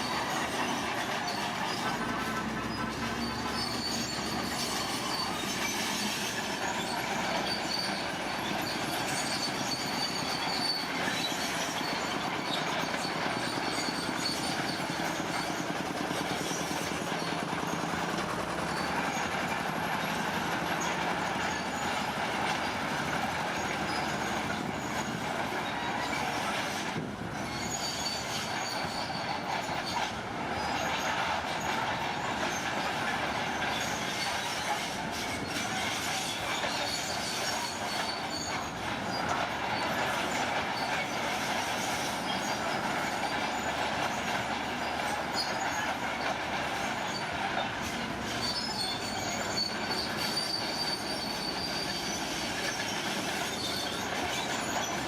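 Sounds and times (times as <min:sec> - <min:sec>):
steel tracks squealing: 0:00.0 - 0:55.0.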